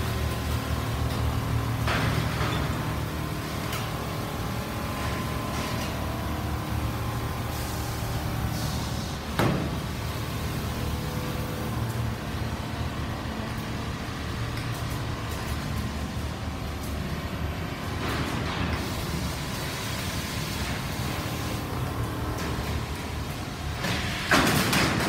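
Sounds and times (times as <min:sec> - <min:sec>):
quilting machines humming: 0:00.0 - 0:25.0.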